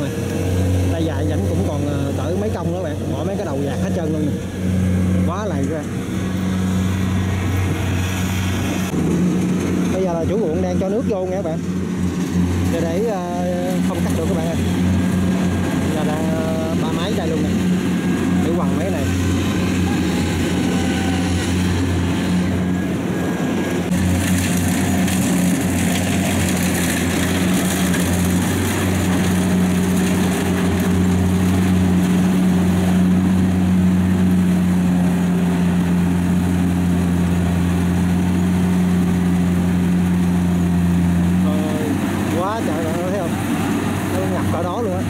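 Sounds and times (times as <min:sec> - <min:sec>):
diesel engine droning under load: 0:00.0 - 0:45.0.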